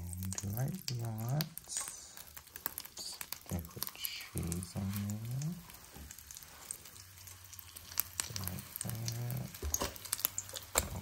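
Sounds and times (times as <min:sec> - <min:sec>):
sandwich sizzling in a frying pan: 0:00.0 - 0:11.0.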